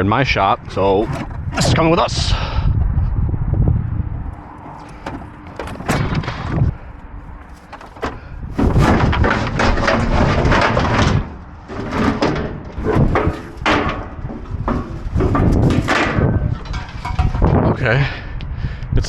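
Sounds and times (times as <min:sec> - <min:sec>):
scrap scraping and clattering: 0:00.3 - 0:02.6, 0:03.8 - 0:17.8
knocks and bangs in a dumpster: 0:00.6 - 0:02.5, 0:03.7 - 0:17.8.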